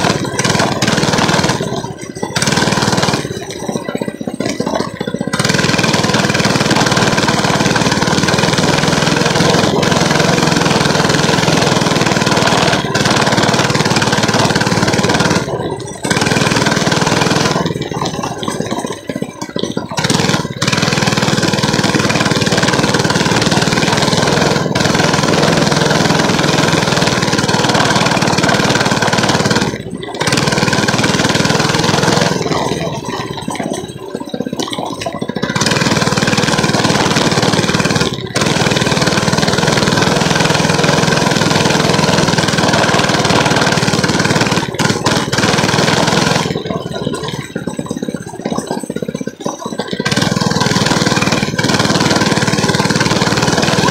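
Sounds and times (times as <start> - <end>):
small motorcycle engine running: 0.0 - 53.9.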